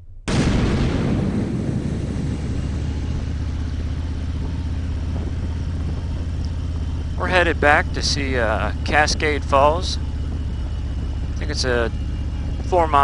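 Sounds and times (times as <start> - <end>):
wind noise: 0.3 - 13.0
motorcycle engine humming: 1.0 - 13.0.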